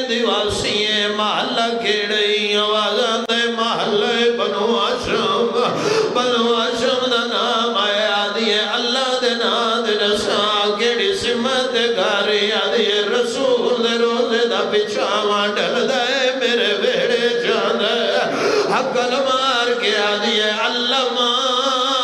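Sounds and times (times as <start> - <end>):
man chanting a lament: 0.0 - 22.0.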